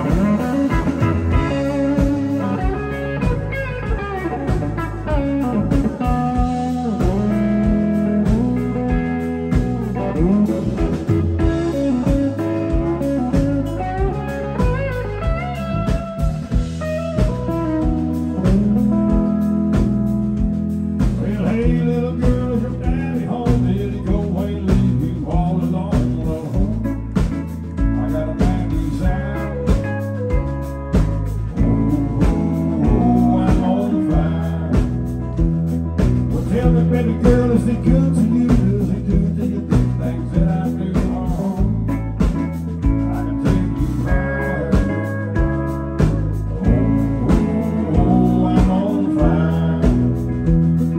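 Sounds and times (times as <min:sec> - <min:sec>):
live country band playing: 0:00.0 - 0:50.9
steel guitar bending notes: 0:00.0 - 0:50.9.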